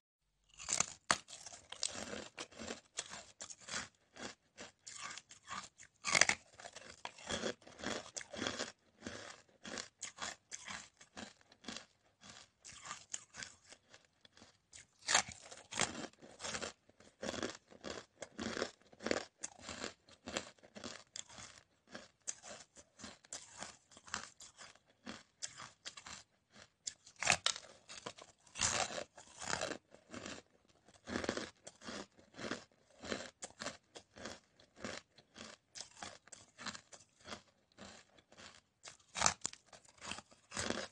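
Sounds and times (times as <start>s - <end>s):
ice being crunched and chewed: 0.5s - 40.9s.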